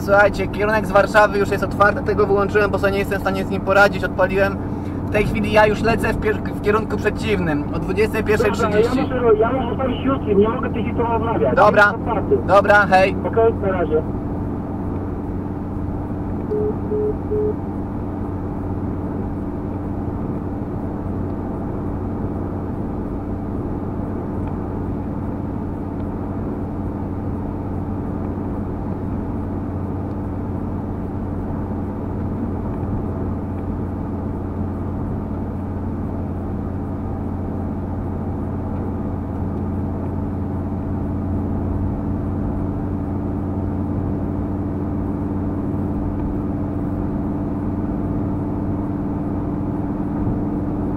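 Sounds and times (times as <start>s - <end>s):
car engine and tyre noise: 0.0s - 50.9s.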